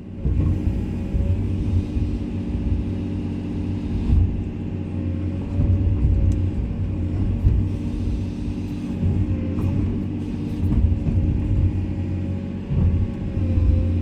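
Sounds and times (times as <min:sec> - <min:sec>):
excavator diesel engine rumbling: 0:00.0 - 0:14.0.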